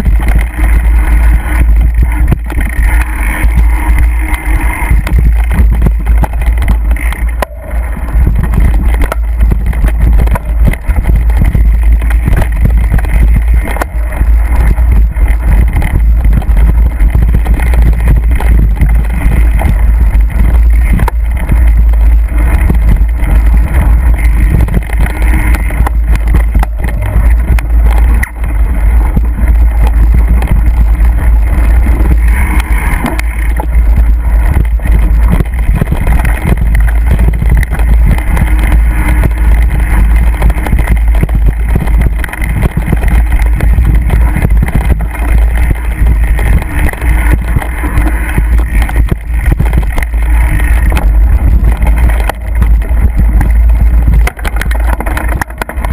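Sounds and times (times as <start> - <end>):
bike rattles and knocks: 0.0 - 55.9
wind and vibration rumble on microphone: 0.0 - 55.9.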